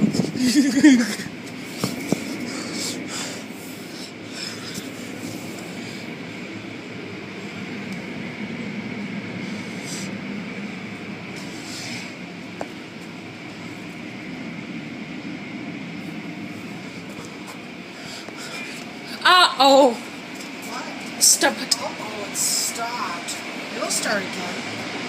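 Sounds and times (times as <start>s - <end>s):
car wash machinery drone: 0.0s - 25.0s
high whine: 0.0s - 25.0s.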